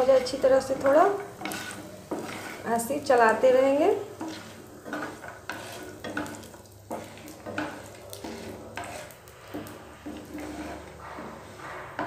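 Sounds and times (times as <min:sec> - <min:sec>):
light sizzle of frying: 0:00.0 - 0:12.0
wooden spatula scraping pan: 0:00.0 - 0:12.0.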